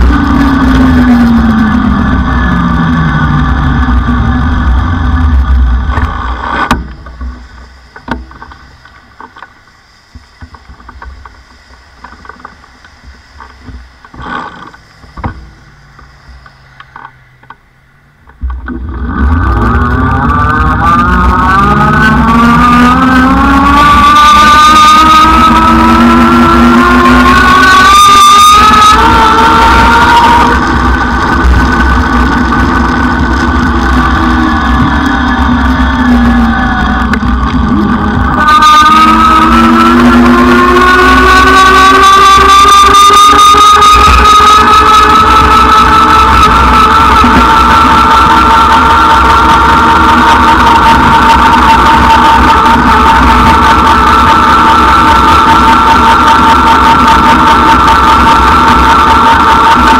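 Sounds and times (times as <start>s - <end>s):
wind rumble: 0.0s - 14.1s, 18.3s - 59.9s
electric bike motor whine: 0.0s - 59.9s.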